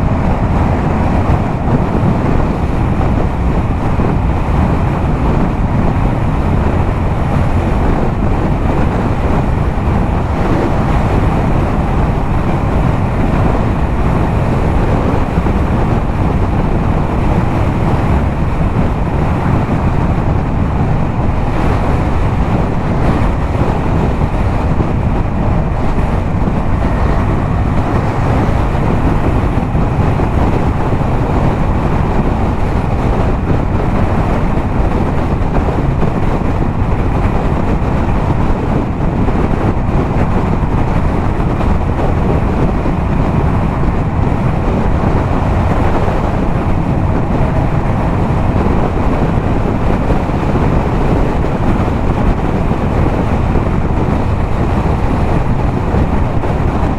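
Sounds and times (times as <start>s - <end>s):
motorcycle engine cruising: 0.0s - 56.9s
wind rushing over microphone: 0.0s - 56.9s.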